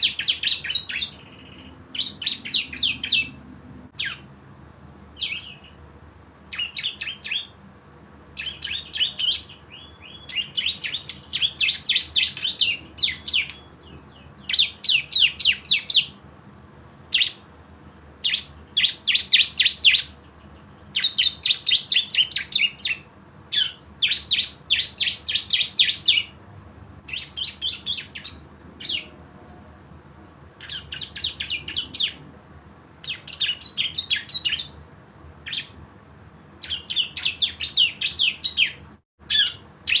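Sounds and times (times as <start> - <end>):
bird singing rapid sharp notes: 0.0 - 4.3, 5.2 - 7.6, 8.3 - 16.2, 17.1 - 17.5, 18.2 - 26.4, 27.1 - 29.2, 30.6 - 32.2, 33.0 - 34.8, 35.4 - 35.8, 36.4 - 40.0.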